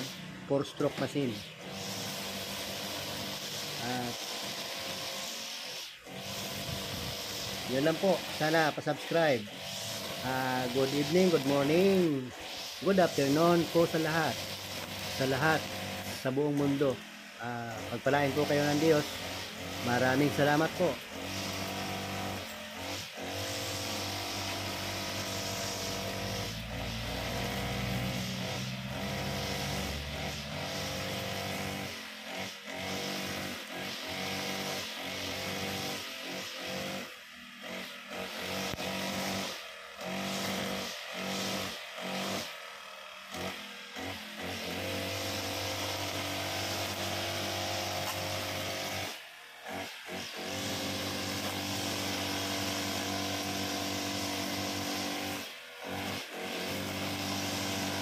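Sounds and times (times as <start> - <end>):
brush cutter engine running: 0.0 - 58.0.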